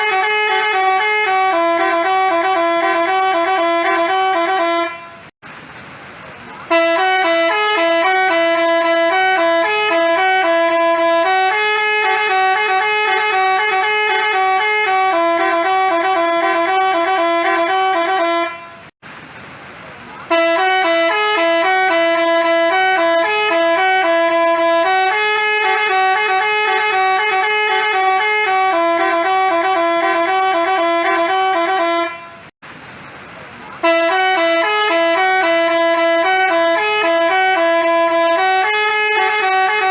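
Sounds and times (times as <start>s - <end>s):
multi-tone bus horn tune: 0.0s - 5.4s, 6.6s - 19.0s, 20.2s - 32.6s, 33.8s - 39.9s.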